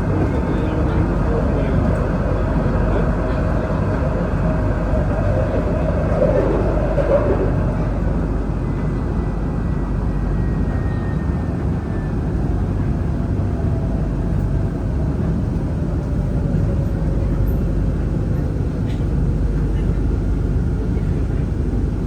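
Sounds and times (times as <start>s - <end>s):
tram rumble and hiss: 0.0s - 22.0s.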